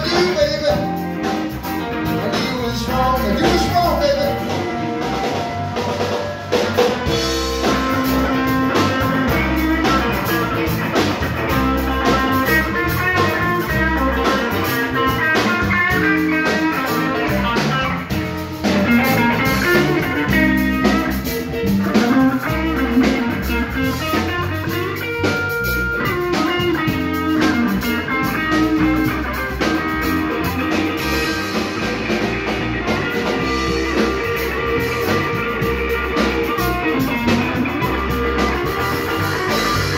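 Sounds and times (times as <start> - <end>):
blues band playing: 0.0 - 39.9
blues guitar: 0.0 - 39.9.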